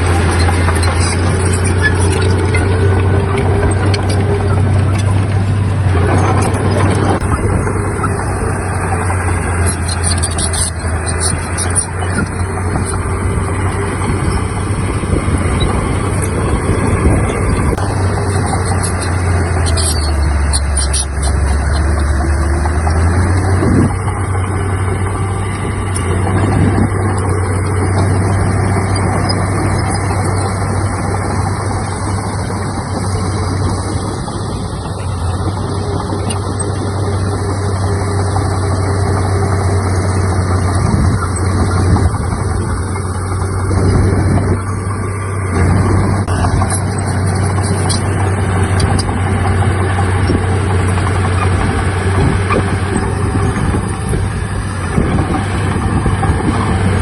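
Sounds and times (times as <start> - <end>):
bulldozer diesel engine humming: 0.0 - 57.0.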